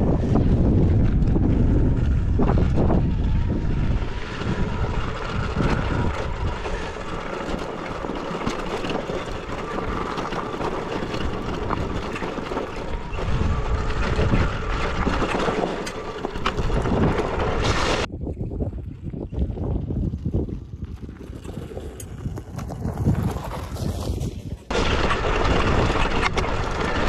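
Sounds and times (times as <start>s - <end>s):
wind on microphone: 0.0s - 27.0s
tyres crunching over gravel: 0.2s - 18.1s, 19.9s - 27.0s.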